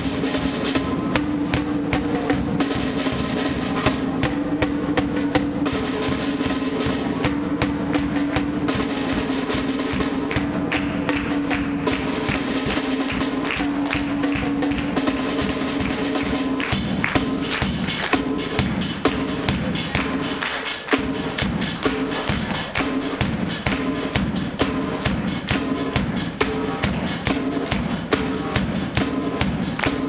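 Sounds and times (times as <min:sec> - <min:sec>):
drum kit playing: 0:00.0 - 0:30.0.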